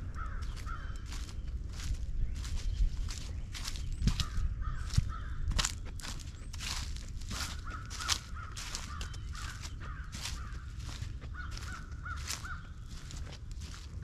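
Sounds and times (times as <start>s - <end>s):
bird calling: 0.0s - 13.9s
footsteps crunching dry leaves: 0.0s - 14.0s.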